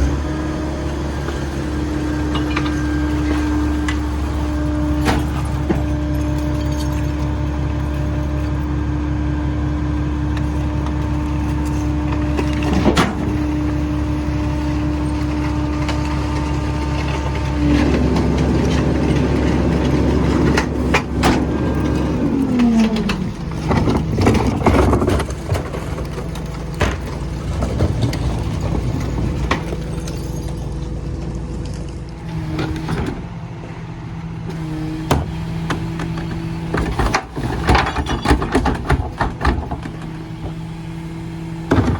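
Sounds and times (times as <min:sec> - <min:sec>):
garbage truck engine running: 0:00.0 - 0:41.9.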